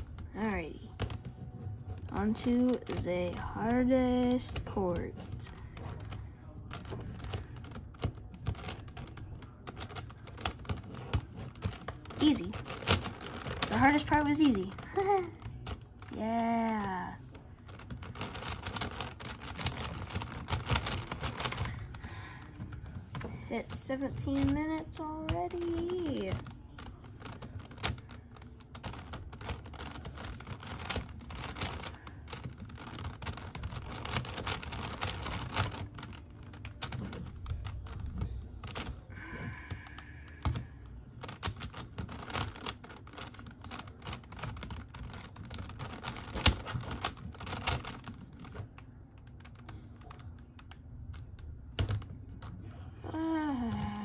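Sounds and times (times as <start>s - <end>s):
plastic puzzle clicking: 0.0s - 52.6s.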